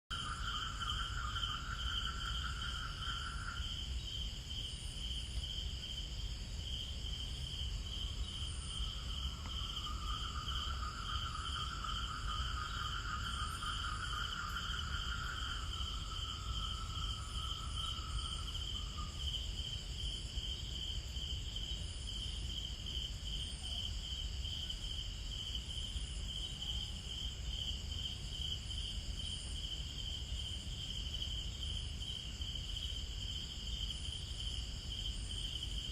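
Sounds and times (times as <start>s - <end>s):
lower insect trill: 0.1s - 35.9s.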